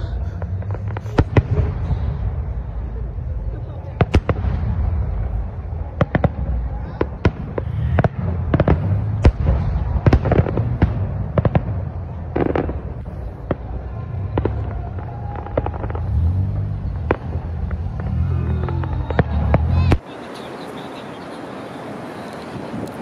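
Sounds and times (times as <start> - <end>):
low rumble: 0.0 - 20.0
fireworks bangs and cracks: 0.0 - 20.7.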